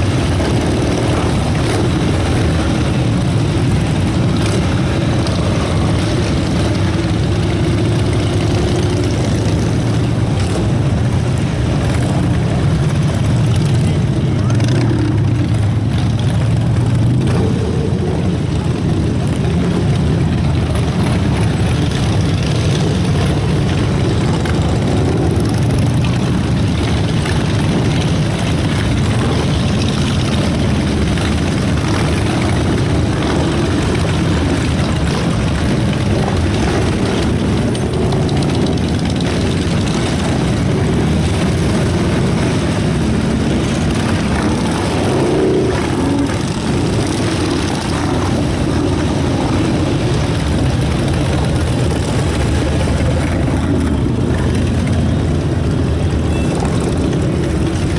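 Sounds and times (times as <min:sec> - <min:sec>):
motorcycle engines rumbling: 0:00.0 - 0:57.9.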